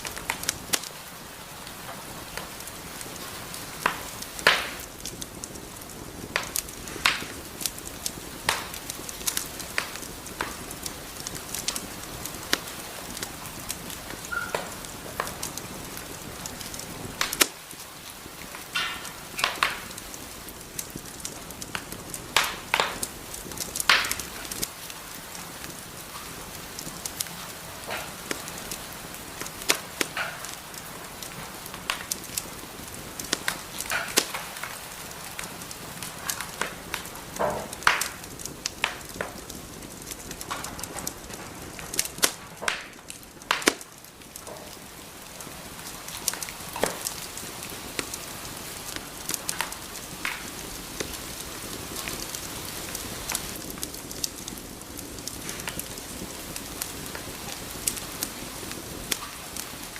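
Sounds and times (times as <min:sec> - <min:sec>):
fire crackling and popping: 0:00.0 - 0:59.9
fire hissing: 0:00.0 - 0:59.9.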